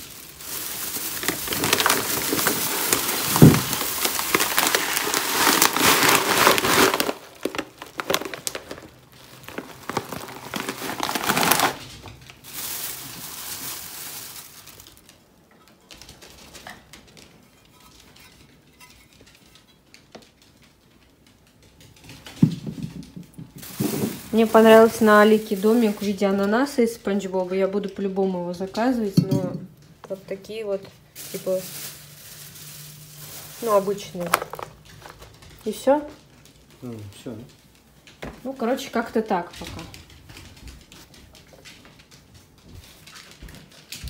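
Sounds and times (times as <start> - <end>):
plastic bag rustling: 0.0 - 16.7, 22.2 - 29.3, 29.9 - 44.0.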